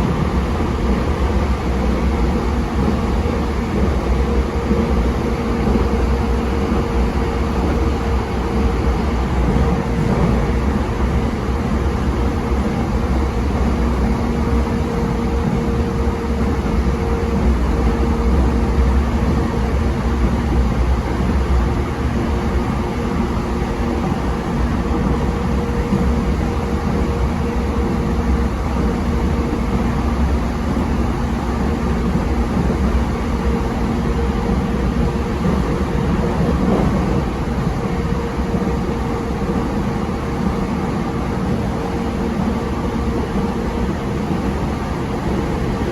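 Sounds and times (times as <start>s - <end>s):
train wheel and rail rumble: 0.0s - 45.9s.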